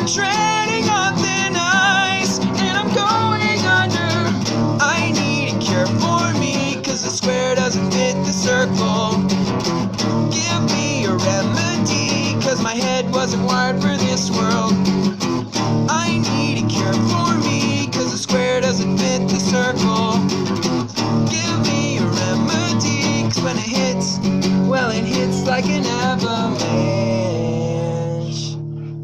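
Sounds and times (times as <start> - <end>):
guitar-driven rock music: 0.0 - 29.0.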